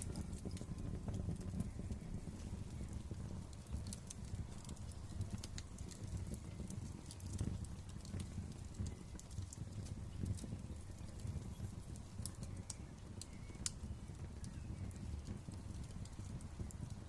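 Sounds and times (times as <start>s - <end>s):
low rumble of flames: 0.0s - 17.0s
sharp snaps and pops: 0.0s - 17.0s
wood fire crackling: 0.0s - 17.0s.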